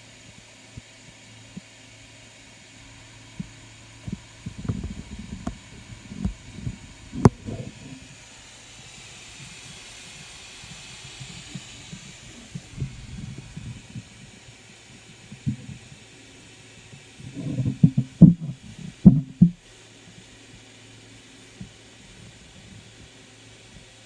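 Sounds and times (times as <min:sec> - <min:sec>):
faint hiss: 0:00.0 - 0:24.0
low hum: 0:02.4 - 0:08.8, 0:10.8 - 0:23.9.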